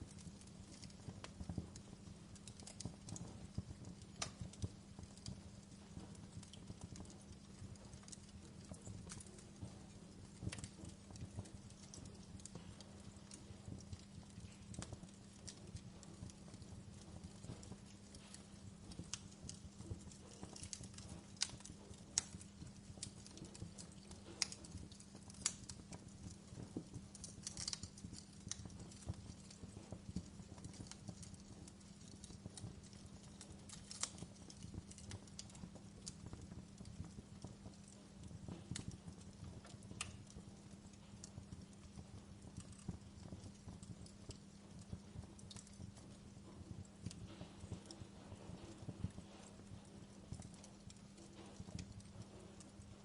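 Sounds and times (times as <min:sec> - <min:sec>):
wood log fire crackling: 0:00.0 - 0:53.0.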